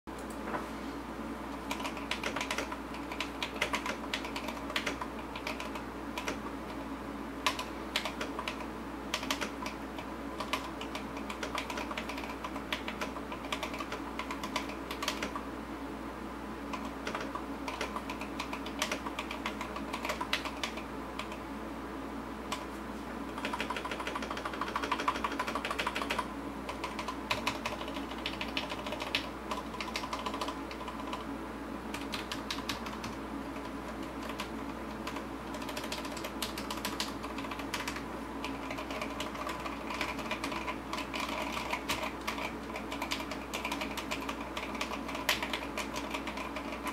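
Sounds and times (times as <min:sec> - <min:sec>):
mechanical keyboard typing: 0:01.7 - 0:06.8, 0:07.4 - 0:15.4, 0:16.7 - 0:21.4, 0:23.3 - 0:31.2, 0:31.9 - 0:46.9.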